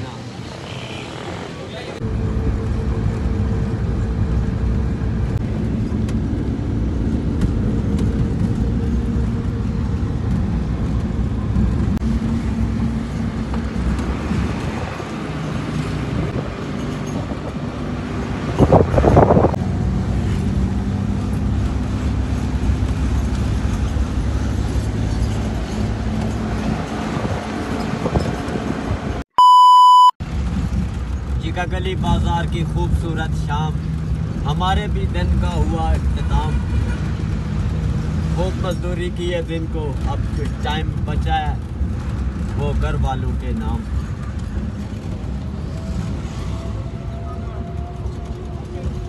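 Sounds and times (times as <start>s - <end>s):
vehicle engine humming: 0.0s - 49.0s.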